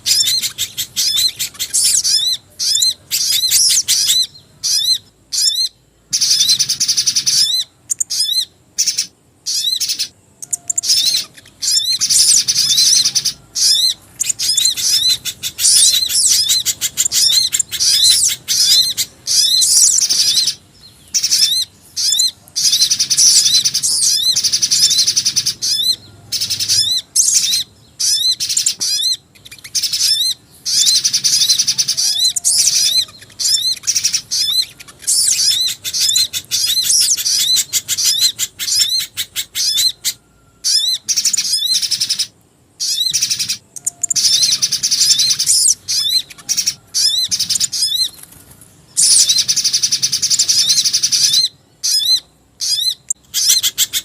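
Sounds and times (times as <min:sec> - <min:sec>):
high rising bird chirps: 0:00.0 - 0:54.0.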